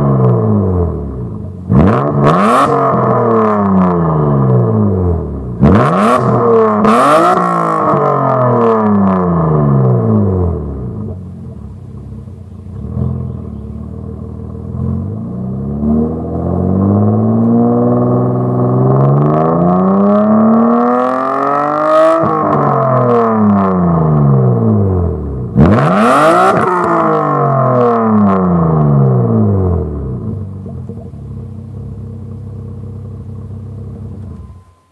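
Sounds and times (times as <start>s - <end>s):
car engine revving: 0.0s - 34.6s.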